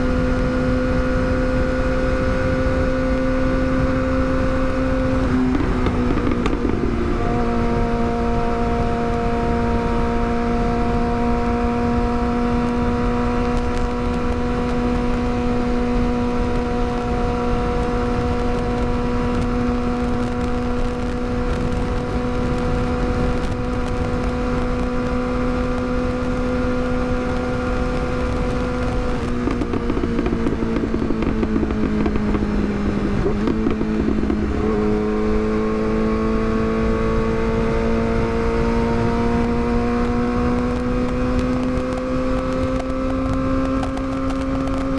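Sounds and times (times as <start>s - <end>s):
motorcycle engine cruising: 0.0s - 44.9s
wind rush: 0.0s - 44.9s.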